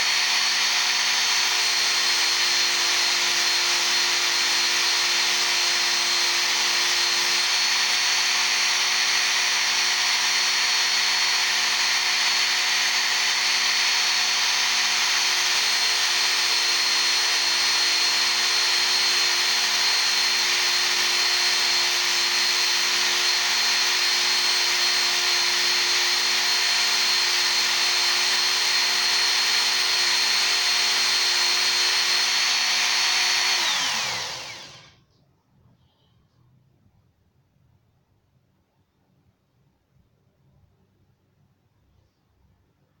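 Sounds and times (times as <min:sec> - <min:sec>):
belt sharpener motor whine: 0:00.0 - 0:35.0.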